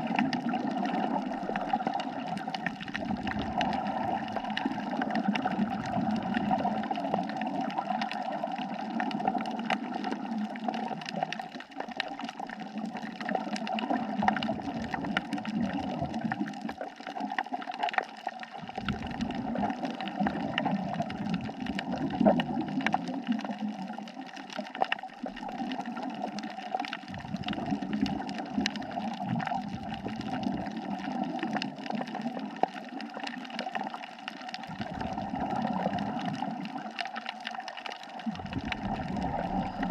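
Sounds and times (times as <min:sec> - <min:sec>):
fine crackle of clicks: 0:00.0 - 0:39.9
scuba diver exhaling bubbles: 0:00.0 - 0:39.9.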